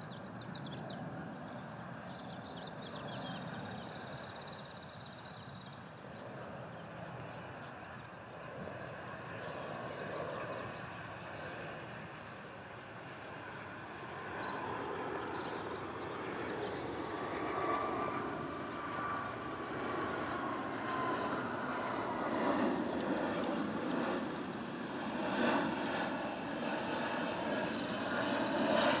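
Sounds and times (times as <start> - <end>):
aircraft passing overhead: 0.0 - 29.0
faint engine whine: 0.0 - 29.0.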